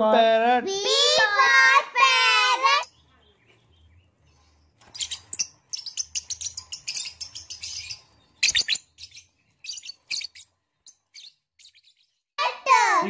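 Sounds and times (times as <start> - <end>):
lovebirds chirping: 2.1 - 13.0.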